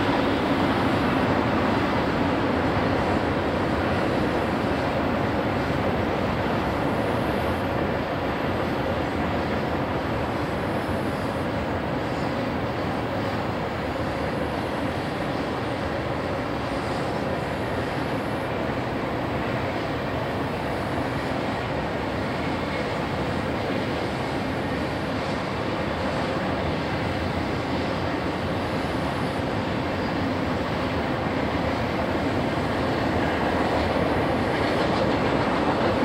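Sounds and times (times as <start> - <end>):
train wheels rushing on rail: 0.0 - 36.0.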